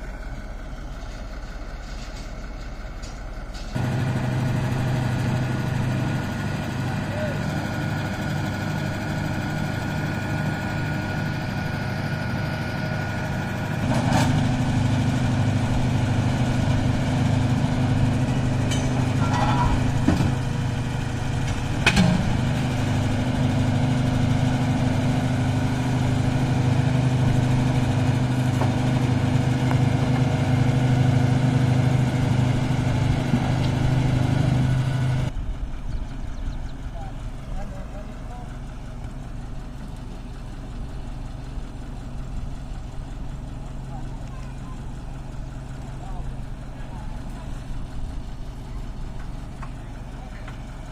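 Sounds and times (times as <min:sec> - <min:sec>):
drilling rig engine running: 0:00.0 - 0:50.9.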